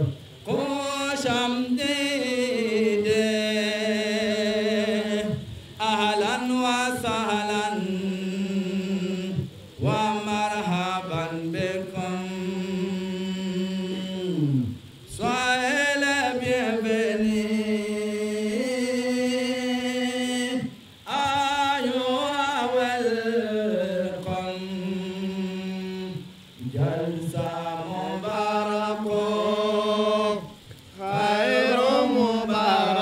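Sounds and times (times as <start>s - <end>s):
solo voice chanting: 0.0s - 33.0s.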